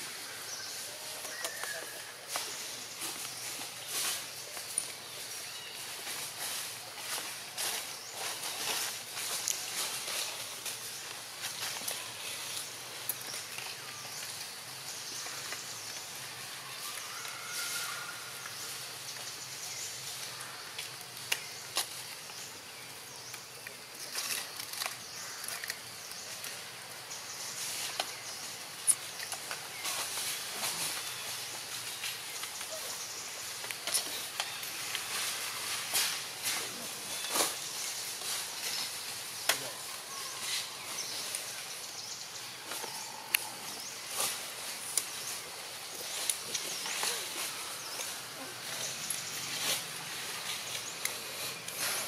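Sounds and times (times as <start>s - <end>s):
steady outdoor hiss: 0.0s - 52.0s.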